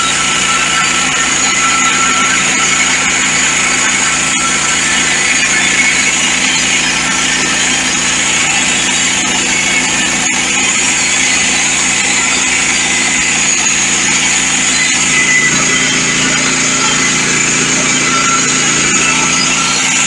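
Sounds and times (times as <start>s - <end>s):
sawmill engine running: 0.0s - 20.0s.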